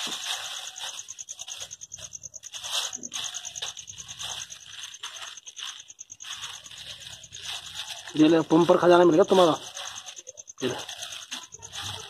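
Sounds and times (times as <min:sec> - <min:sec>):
fast high pulsing: 0:00.0 - 0:12.0
plastic bag crinkling: 0:00.0 - 0:12.0.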